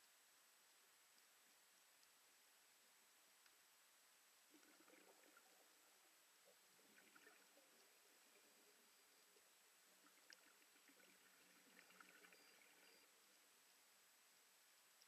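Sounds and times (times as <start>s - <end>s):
faint steady hiss: 0.0s - 15.0s
soft crackles: 0.0s - 15.0s.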